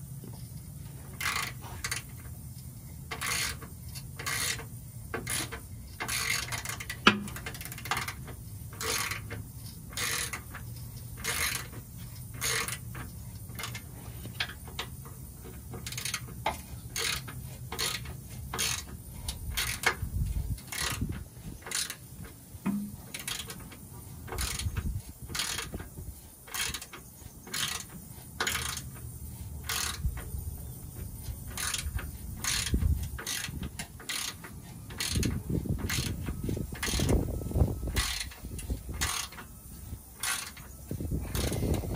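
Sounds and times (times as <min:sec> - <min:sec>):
ratchet wrench clicking: 0:01.1 - 0:41.9.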